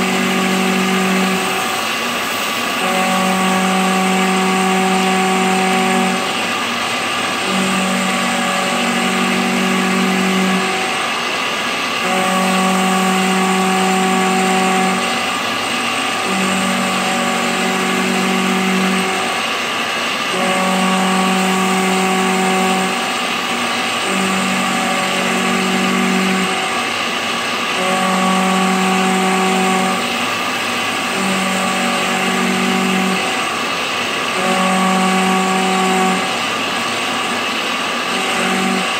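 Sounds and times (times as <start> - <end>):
mill cutting cast iron: 0.0 - 38.9
pitched machine hum: 0.0 - 38.9.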